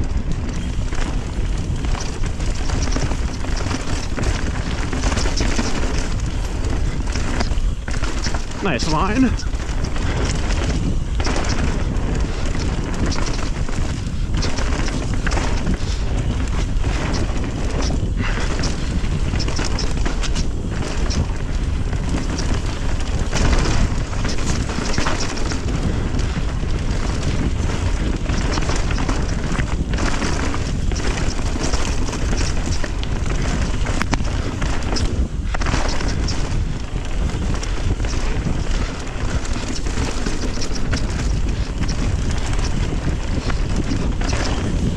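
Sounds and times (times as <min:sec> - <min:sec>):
bike rattling and knocking: 0:00.0 - 0:44.9
bike tyres rolling on dirt: 0:00.0 - 0:44.9
wind on microphone: 0:00.0 - 0:44.9.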